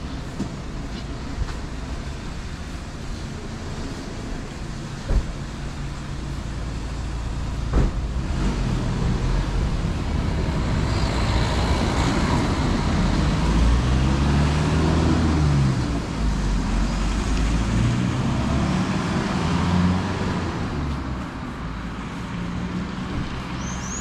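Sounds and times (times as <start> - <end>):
vehicle engine revving: 4.5 - 24.0.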